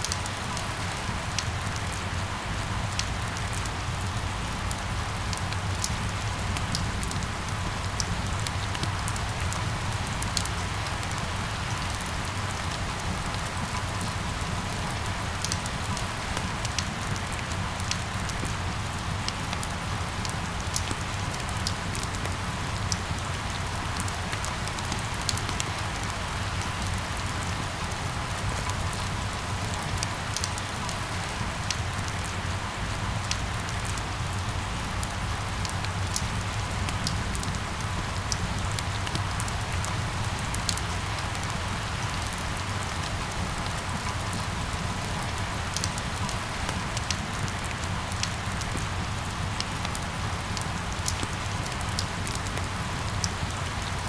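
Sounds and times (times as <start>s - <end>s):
raindrops ticking on surface: 0.0s - 54.0s
steady rain falling: 0.0s - 54.0s.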